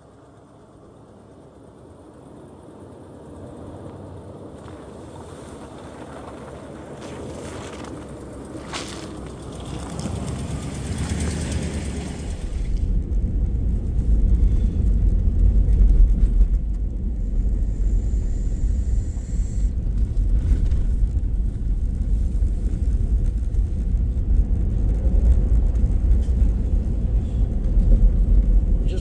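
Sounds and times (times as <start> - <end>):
truck engine rumbling: 0.0 - 29.0.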